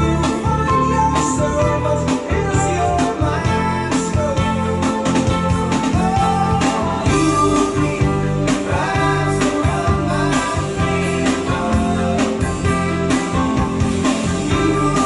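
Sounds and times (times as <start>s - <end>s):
distorted song over loudspeakers: 0.0s - 15.0s.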